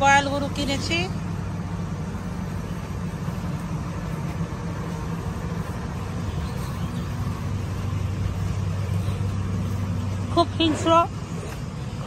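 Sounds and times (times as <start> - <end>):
low mechanical hum: 0.0 - 12.0
outdoor background noise: 0.0 - 12.0.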